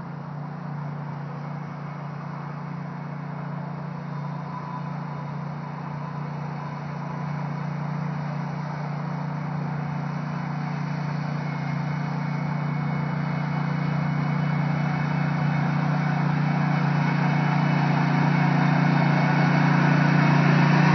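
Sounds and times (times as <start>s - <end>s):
lawn mower engine running: 0.0s - 20.9s.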